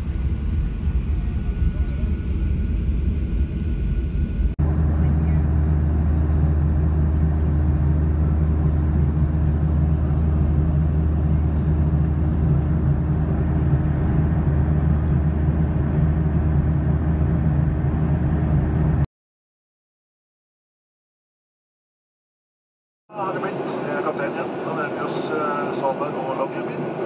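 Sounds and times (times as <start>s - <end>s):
jet engine drone: 0.0s - 19.1s, 23.1s - 27.0s.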